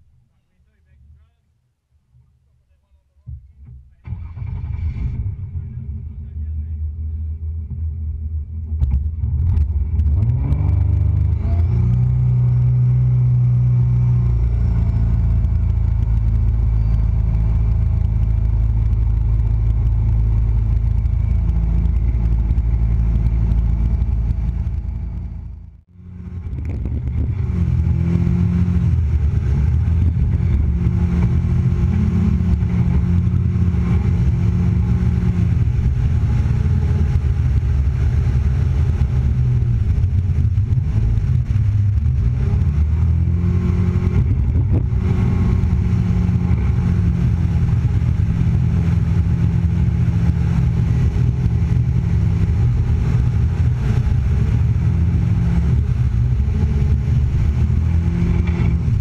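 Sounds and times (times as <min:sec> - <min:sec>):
boat engine revving: 0:04.0 - 0:59.0.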